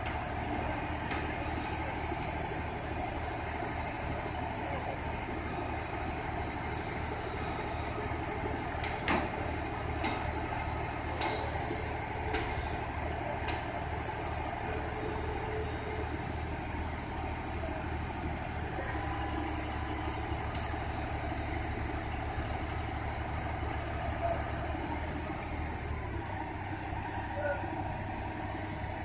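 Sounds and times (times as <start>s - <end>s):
heavy diesel engine rumbling: 0.0s - 29.0s.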